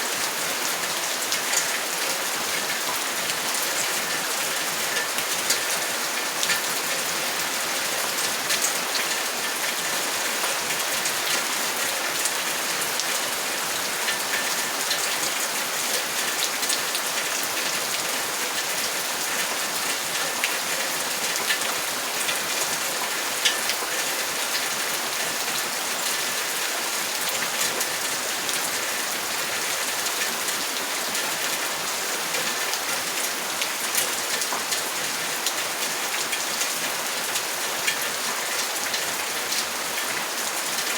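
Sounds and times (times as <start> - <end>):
raindrops ticking close by: 0.2 - 40.9.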